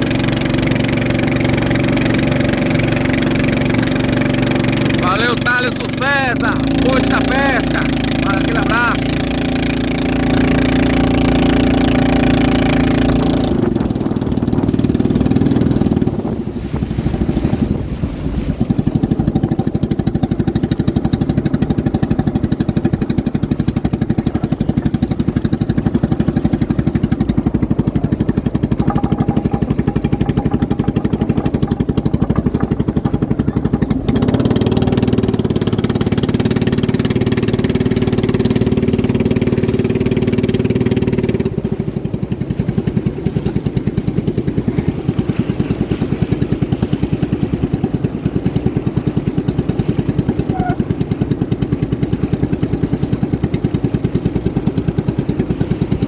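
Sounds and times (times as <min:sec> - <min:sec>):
motorboat engines running: 0:00.0 - 0:56.0.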